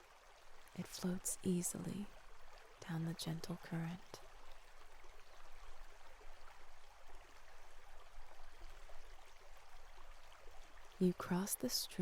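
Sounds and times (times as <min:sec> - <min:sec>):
water running over stones: 0:00.0 - 0:12.0.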